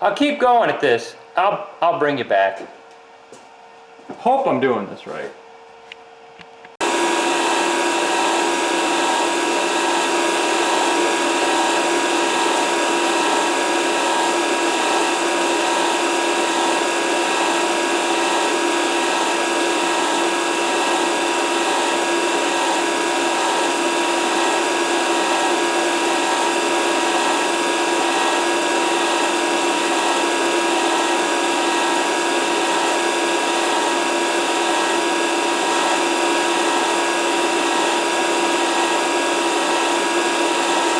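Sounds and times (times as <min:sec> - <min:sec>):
grinder motor whining: 0:06.8 - 0:40.9.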